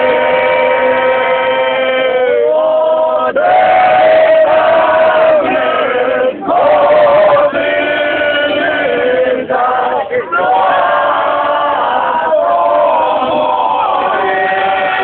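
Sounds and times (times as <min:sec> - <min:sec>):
men singing unaccompanied: 0:00.0 - 0:15.0.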